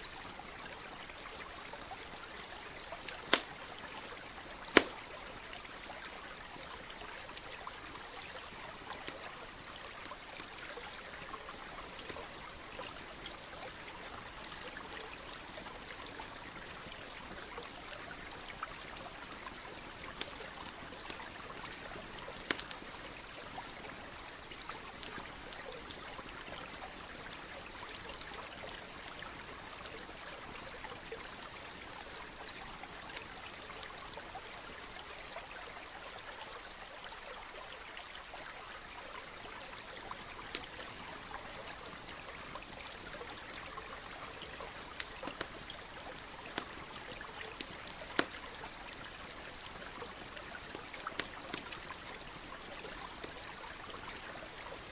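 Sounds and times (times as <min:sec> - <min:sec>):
campfire crackling and popping: 0:00.0 - 0:36.0, 0:38.3 - 0:54.9
stream rushing and trickling: 0:00.0 - 0:54.9.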